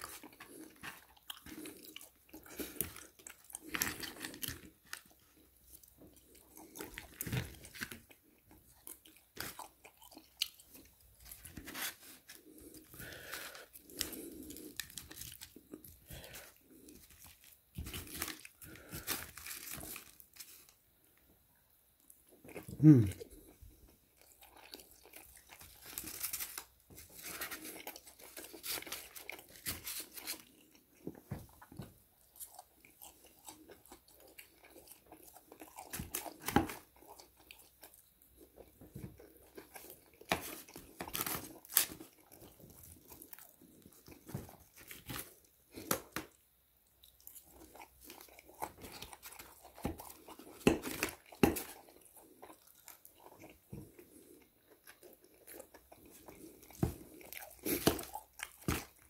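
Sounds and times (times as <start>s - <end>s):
chewing and crunching fried chicken: 0.0s - 59.0s.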